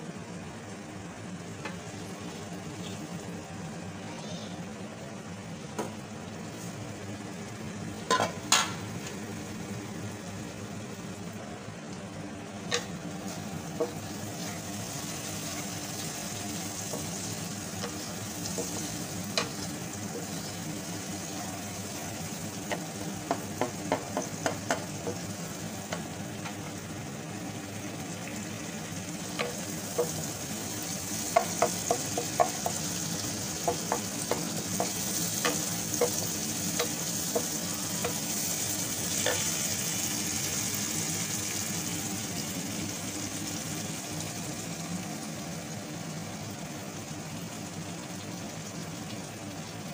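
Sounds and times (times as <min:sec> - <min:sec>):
food sizzling in hot oil: 0:06.0 - 0:49.9.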